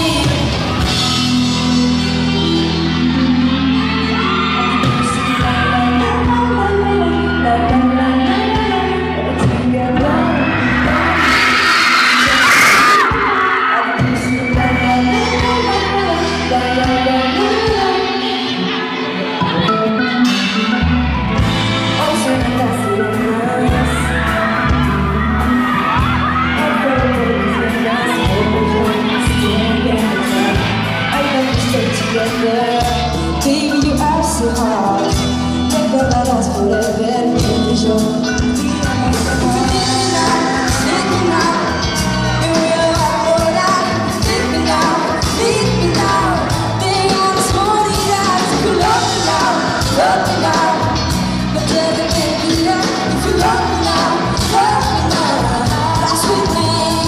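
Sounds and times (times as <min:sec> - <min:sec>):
live pop band with male singer: 0:00.0 - 0:57.0.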